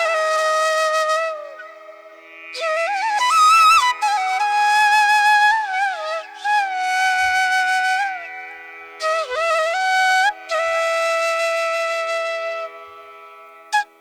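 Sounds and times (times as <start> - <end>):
flute long sliding notes: 0.0 - 13.1, 13.8 - 14.0.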